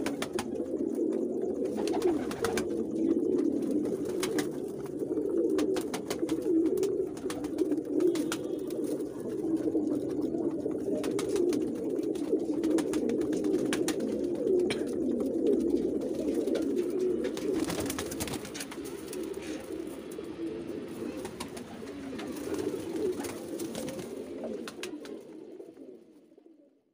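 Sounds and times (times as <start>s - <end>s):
pigeons cooing: 0.0s - 26.8s.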